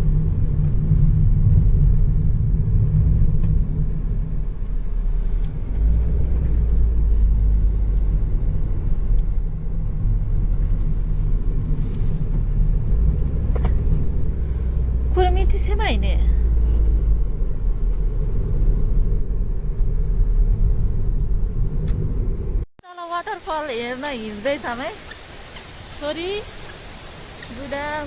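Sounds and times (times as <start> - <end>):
car engine rumble: 0.0 - 28.0
tyres on road: 0.0 - 28.0.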